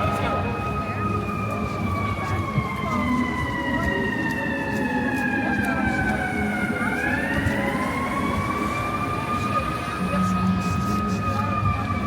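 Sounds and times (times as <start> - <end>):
city traffic rumble: 0.0 - 12.0
emergency vehicle siren wailing: 0.0 - 12.0.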